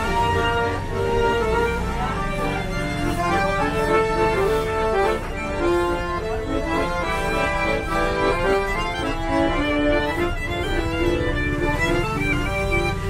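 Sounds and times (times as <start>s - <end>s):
piano accordion: 0.0s - 13.0s
violin melody: 0.0s - 13.0s.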